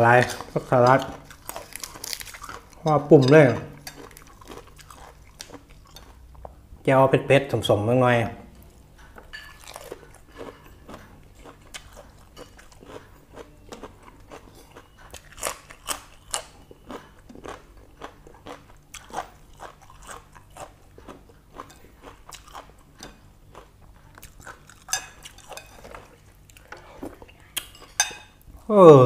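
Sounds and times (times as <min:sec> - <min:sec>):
crunchy chewing: 0:00.2 - 0:06.5, 0:09.5 - 0:28.0.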